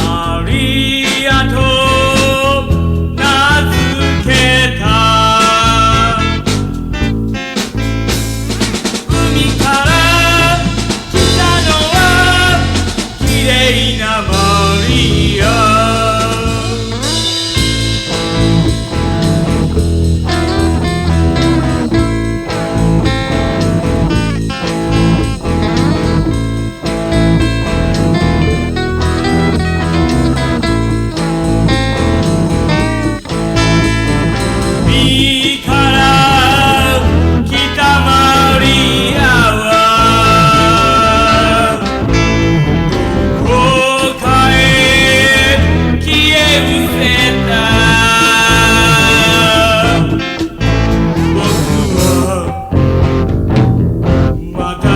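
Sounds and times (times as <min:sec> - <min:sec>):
person singing: 0:00.0 - 0:06.8, 0:08.9 - 0:53.4, 0:54.1 - 0:54.9
guitar: 0:00.0 - 0:54.9
rock music: 0:00.0 - 0:54.9
steady bass line: 0:00.0 - 0:54.9.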